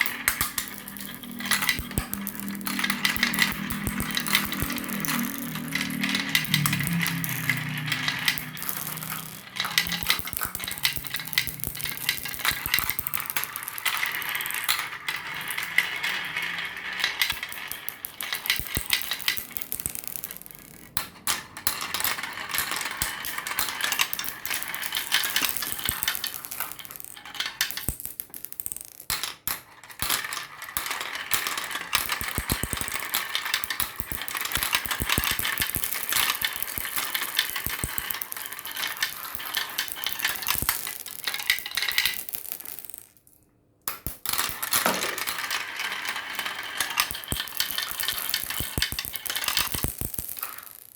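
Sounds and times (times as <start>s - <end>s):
marbles rattling down a marble run: 0.0s - 50.9s.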